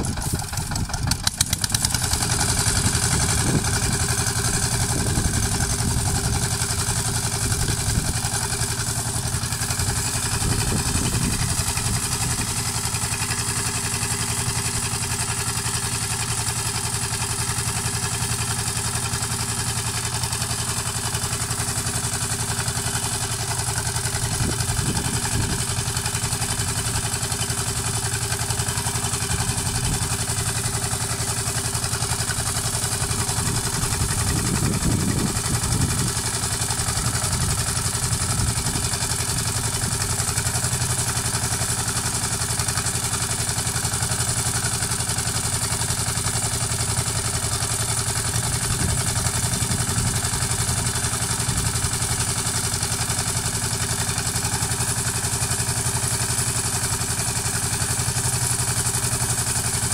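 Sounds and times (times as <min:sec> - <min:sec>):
walking tractor engine idling: 0:00.0 - 0:59.9.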